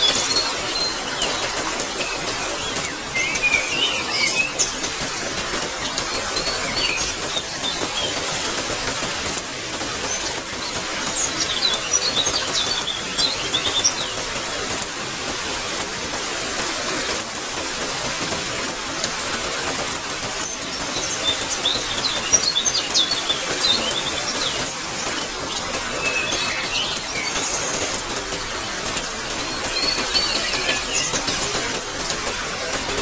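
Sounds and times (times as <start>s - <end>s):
small birds chirping: 0.0s - 17.3s, 18.0s - 33.0s
rain falling: 0.0s - 33.0s.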